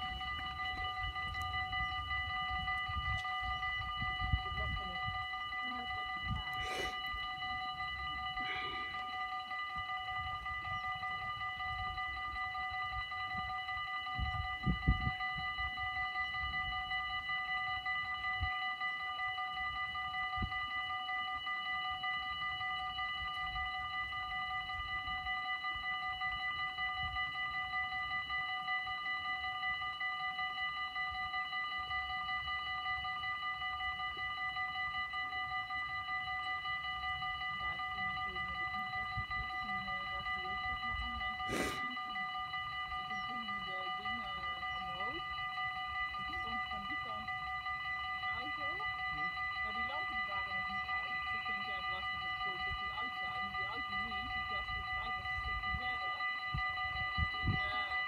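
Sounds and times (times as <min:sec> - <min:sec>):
level crossing bells ringing: 0:00.0 - 0:58.0.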